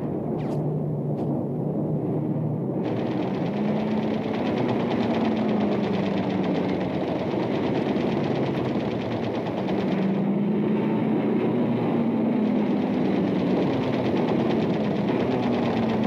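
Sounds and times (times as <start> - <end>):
piston aircraft engines droning: 0.0 - 16.0.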